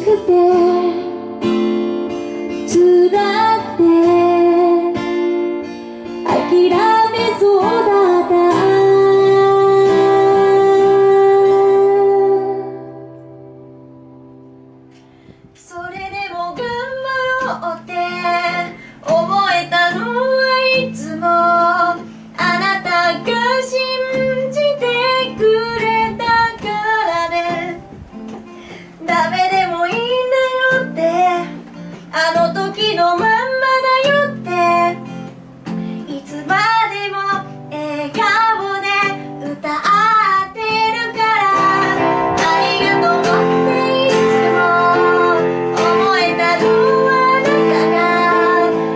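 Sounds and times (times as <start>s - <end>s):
woman singing: 0.0s - 1.8s, 2.5s - 5.6s, 6.2s - 13.2s, 15.5s - 27.9s, 28.8s - 35.3s, 36.0s - 48.9s
acoustic guitar: 0.0s - 48.9s.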